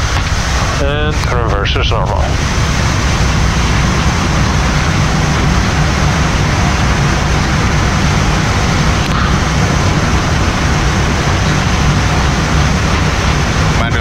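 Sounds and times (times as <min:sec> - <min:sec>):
deep rumble: 0:00.0 - 0:14.0
jet reverse thrust roar: 0:00.0 - 0:14.0.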